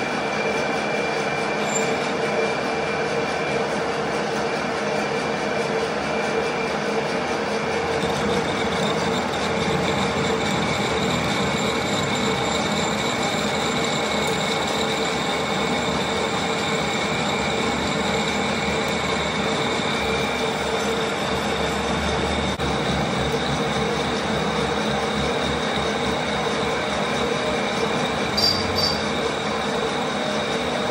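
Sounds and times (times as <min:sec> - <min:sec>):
metal lathe running: 0:00.0 - 0:30.9.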